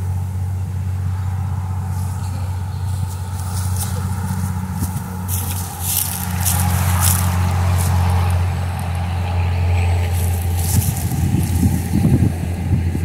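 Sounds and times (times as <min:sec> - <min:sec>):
wind buffeting microphone: 0:00.0 - 0:13.0
hissing scraping rustles: 0:01.8 - 0:12.4.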